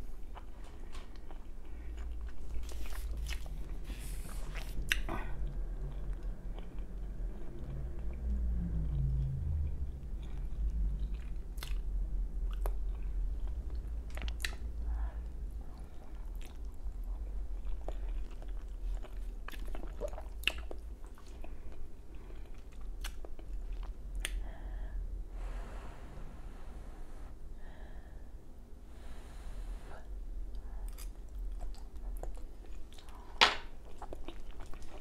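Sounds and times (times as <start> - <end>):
person chewing pasta: 0.1 - 24.4, 30.4 - 35.0.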